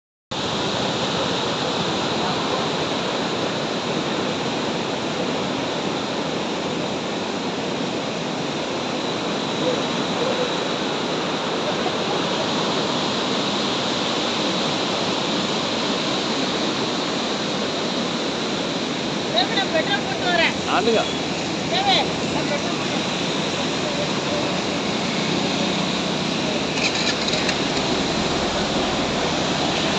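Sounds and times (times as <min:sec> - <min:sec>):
rushing floodwater: 0:00.3 - 0:29.9
vehicle road and wind noise: 0:00.4 - 0:29.9.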